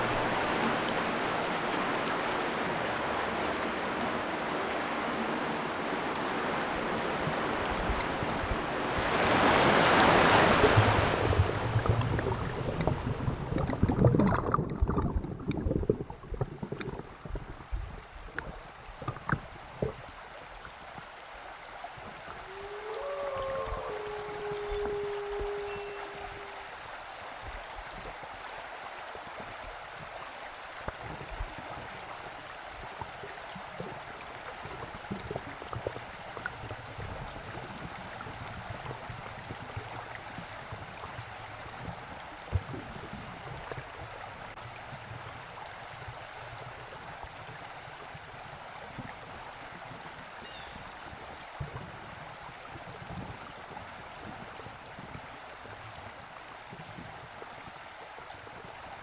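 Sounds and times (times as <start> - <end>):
creek flowing: 0.0 - 59.0.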